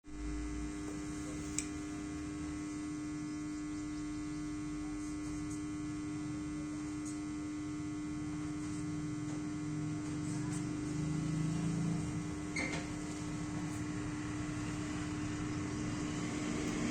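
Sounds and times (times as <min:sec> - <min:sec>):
steady electrical hum: 0:00.0 - 0:16.9.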